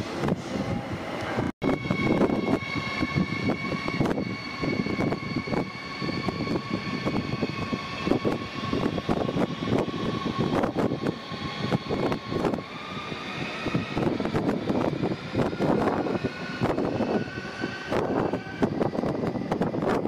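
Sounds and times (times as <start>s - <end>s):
electric train drive whine: 0.0s - 20.0s
train low rumble: 0.0s - 20.0s.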